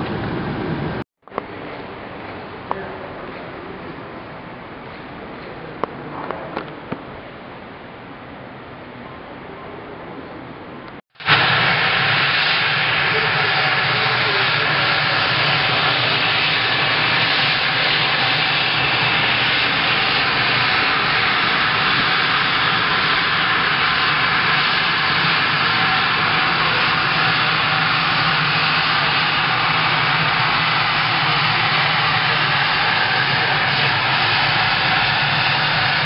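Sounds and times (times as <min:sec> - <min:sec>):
jet engines running: 0:00.0 - 0:07.2, 0:10.9 - 0:36.0.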